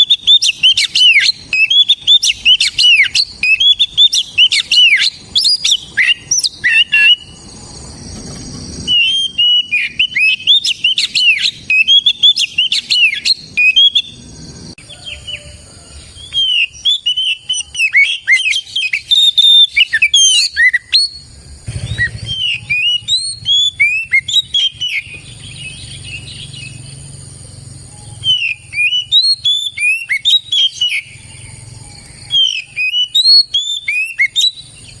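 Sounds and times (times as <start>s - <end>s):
bird singing whistled notes: 0.0s - 35.0s.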